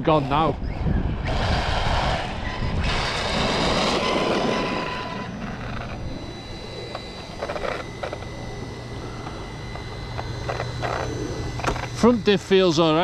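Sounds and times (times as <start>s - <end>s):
tyre and drivetrain noise: 0.0s - 12.2s
rc car motor whine: 0.0s - 13.0s.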